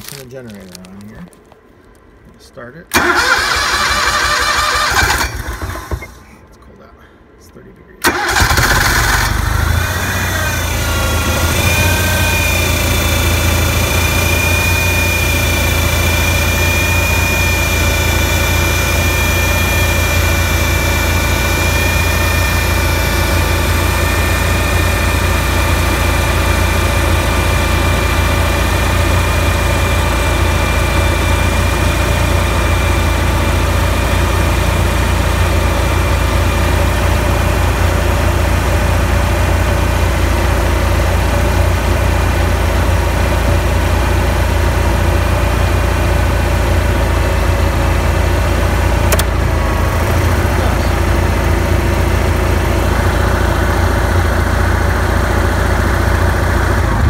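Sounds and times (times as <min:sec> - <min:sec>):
generator engine running: 0:02.9 - 0:06.3, 0:08.0 - 0:57.0.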